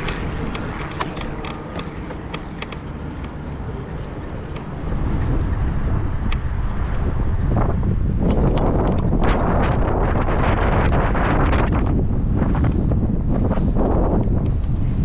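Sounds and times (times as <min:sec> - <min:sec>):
bicycle clicks and ticks: 0:00.0 - 0:04.9, 0:06.2 - 0:15.0
wind rumbling on microphone: 0:00.0 - 0:15.0.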